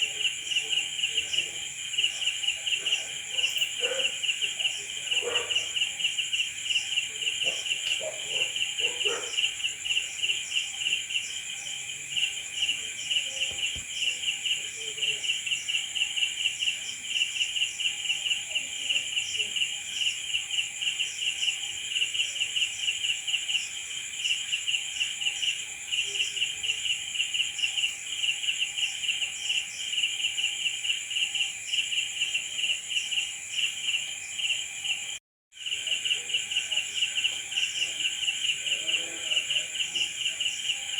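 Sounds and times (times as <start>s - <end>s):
crickets chirping: 0.0s - 40.9s
high continuous insect trill: 0.0s - 40.9s.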